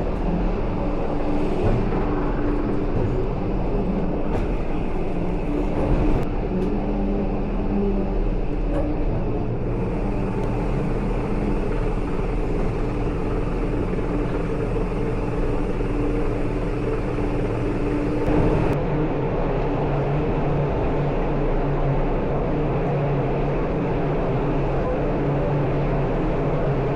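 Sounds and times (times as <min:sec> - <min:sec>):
vehicle running with low hum: 0:00.0 - 0:26.9.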